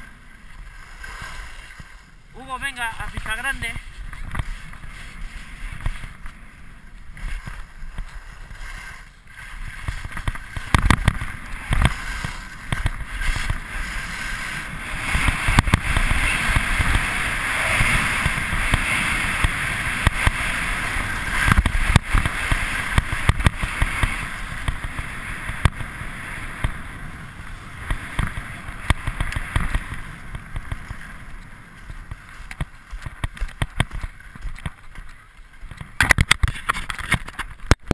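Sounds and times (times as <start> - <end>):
wind on microphone: 0.0 - 37.9.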